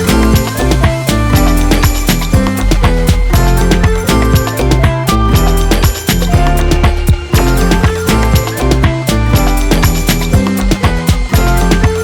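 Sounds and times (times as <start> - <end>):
electronic music with driving beat: 0.0 - 12.0.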